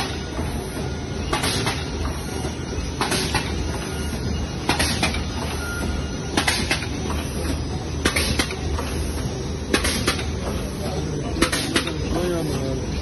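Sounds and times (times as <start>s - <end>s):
sharp machine clacks: 0.0s - 10.6s, 11.4s - 12.2s
machine mechanical hum: 0.0s - 13.0s.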